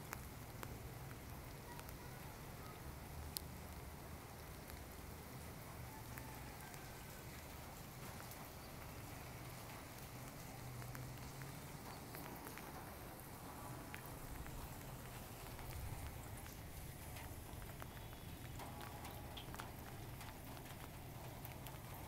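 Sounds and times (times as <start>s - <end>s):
rain on concrete rooftop: 0.0s - 22.0s.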